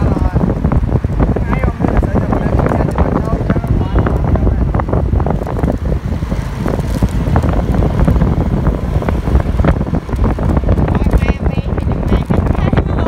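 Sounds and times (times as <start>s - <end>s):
motorbike rumble: 0.0s - 13.0s
wind buffeting microphone: 0.0s - 13.0s.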